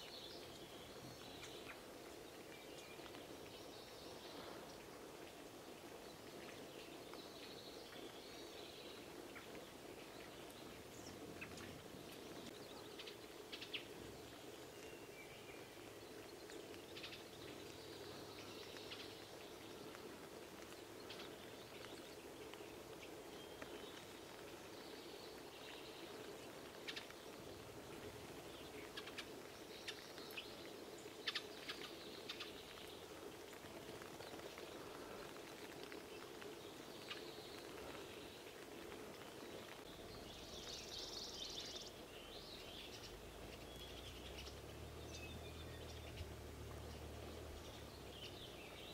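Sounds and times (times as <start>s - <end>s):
light rain: 0.0s - 48.9s
songbirds chirping: 0.0s - 48.9s.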